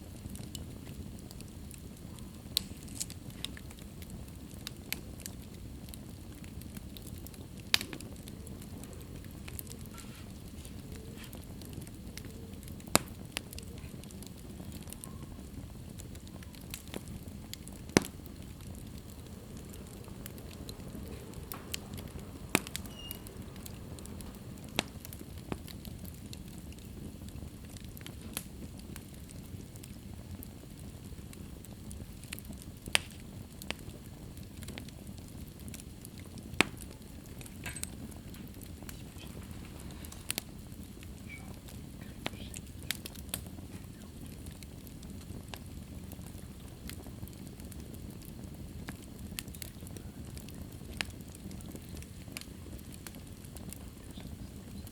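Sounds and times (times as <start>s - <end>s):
wood fire crackling: 0.0s - 54.9s
logs popping: 2.5s - 30.0s, 32.1s - 54.9s.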